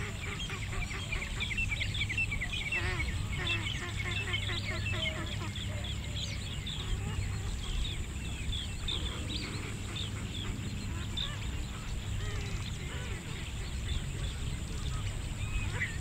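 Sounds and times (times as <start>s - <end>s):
steady low hum: 0.0s - 16.0s
waterfowl calling: 0.0s - 16.0s.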